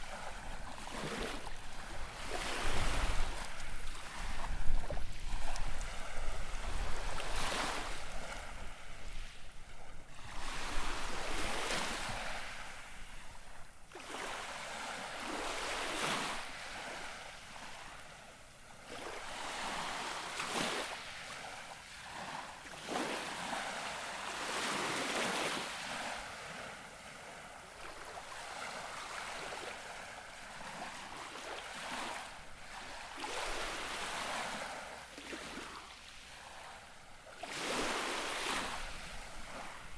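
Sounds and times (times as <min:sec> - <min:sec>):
gentle waves lapping on shore: 0:00.0 - 0:39.9.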